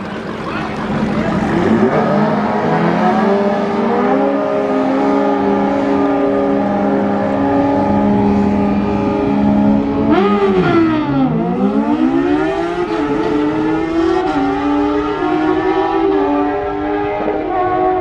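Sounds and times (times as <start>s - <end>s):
car engine revving high: 0.8s - 18.0s.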